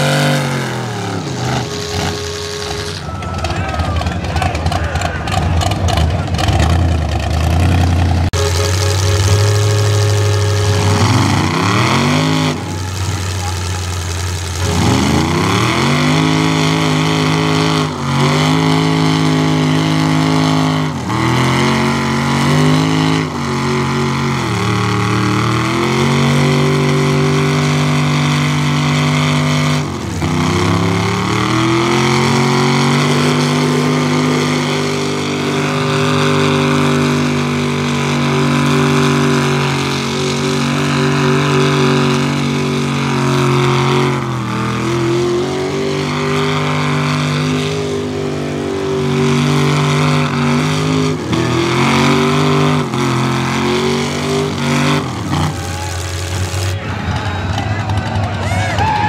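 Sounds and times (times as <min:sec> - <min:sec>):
truck engines revving high: 0:00.0 - 0:59.0.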